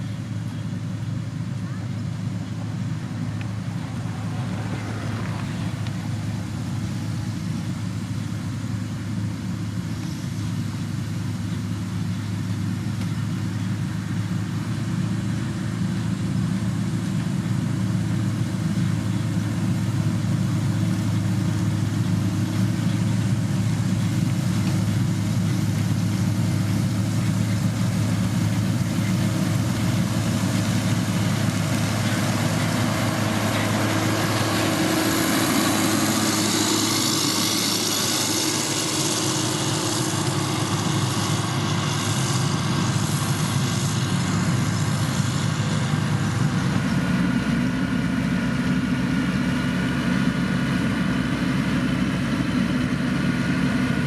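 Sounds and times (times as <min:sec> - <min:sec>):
heavy machine engine humming: 0:00.0 - 0:54.0.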